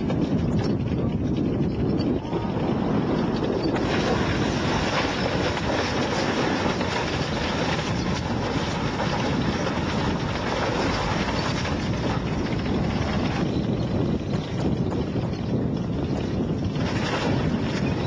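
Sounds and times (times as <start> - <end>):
heavy vehicle engine running: 0.0 - 18.0
wind buffeting microphone: 0.0 - 18.0.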